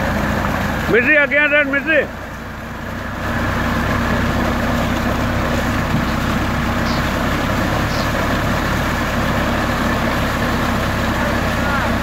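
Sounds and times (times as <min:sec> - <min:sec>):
tractor engine running: 0:00.0 - 0:12.0
water gushing and splashing: 0:00.0 - 0:12.0.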